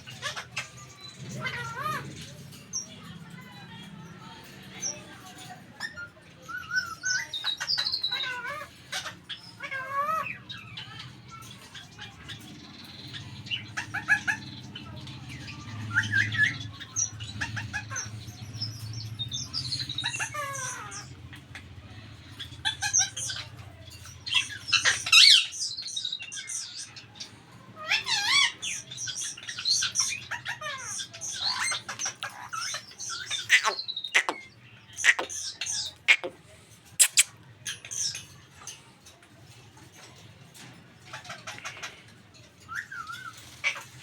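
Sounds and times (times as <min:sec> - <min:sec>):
parrots chirping and squawking: 0:00.0 - 0:44.0.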